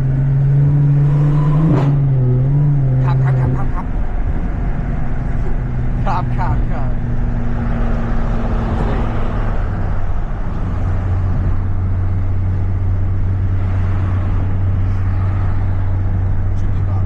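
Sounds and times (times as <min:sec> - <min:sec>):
car engine running: 0:00.0 - 0:17.0
road noise: 0:00.0 - 0:17.0.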